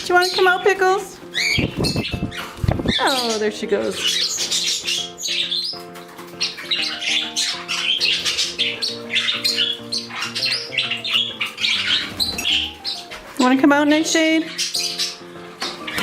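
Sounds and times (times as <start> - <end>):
background music with held notes: 0.0 - 16.0
parrots squawking and chirping: 0.0 - 16.0.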